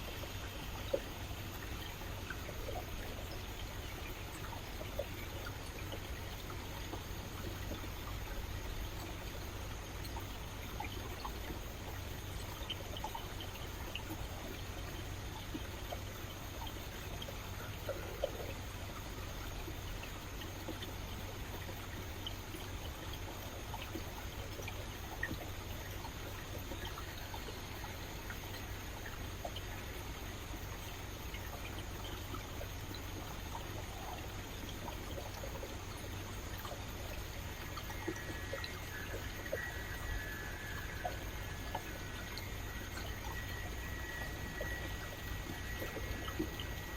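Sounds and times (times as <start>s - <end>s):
river flowing: 0.0s - 46.9s
water trickling and splashing: 0.0s - 46.9s.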